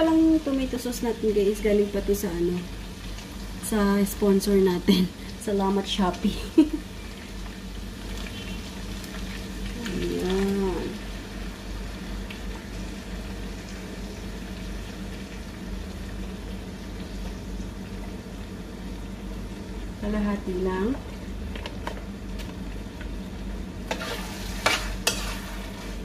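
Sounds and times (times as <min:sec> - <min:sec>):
meat sizzling in a wok: 0:00.0 - 0:26.0.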